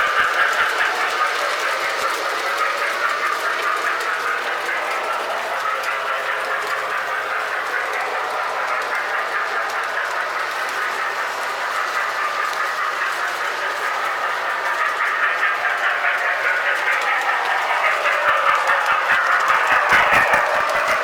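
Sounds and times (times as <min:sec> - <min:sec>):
toy train motors whirring: 0:00.0 - 0:21.0
wheels clicking over rail joints: 0:00.0 - 0:21.0.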